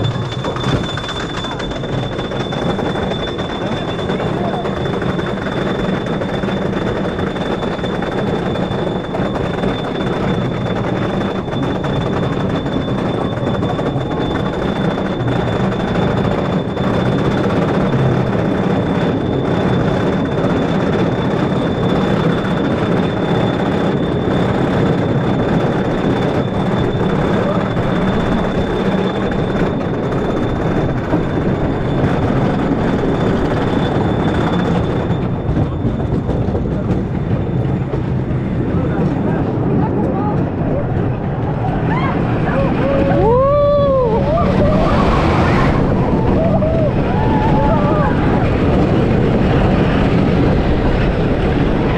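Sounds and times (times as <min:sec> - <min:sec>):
chain lift rattling and rumbling: 0:00.0 - 0:51.9
constant high whine: 0:00.0 - 0:51.9.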